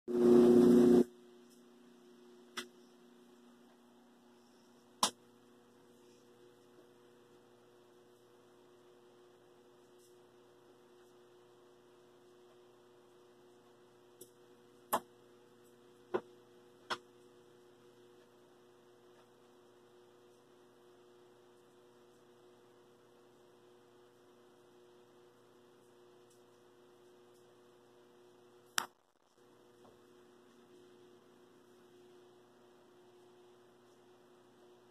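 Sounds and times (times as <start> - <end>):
low electrical hum: 0.1 - 34.9.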